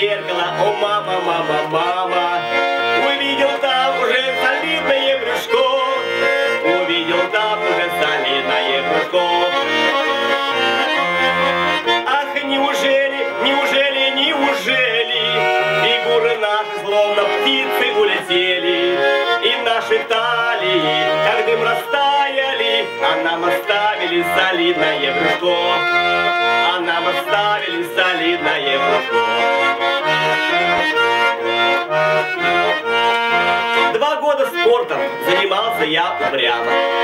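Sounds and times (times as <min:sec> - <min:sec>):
button accordion playing: 0:00.0 - 0:37.0.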